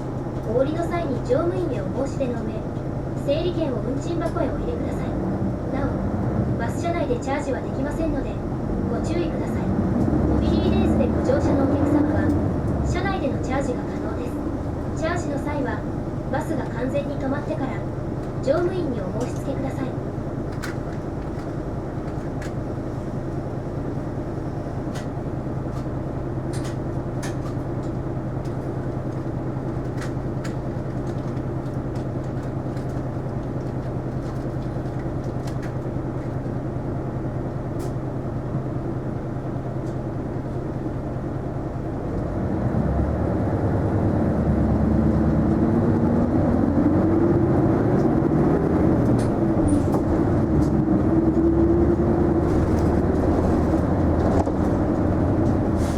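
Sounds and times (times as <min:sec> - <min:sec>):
bus diesel engine: 0:00.0 - 0:55.9.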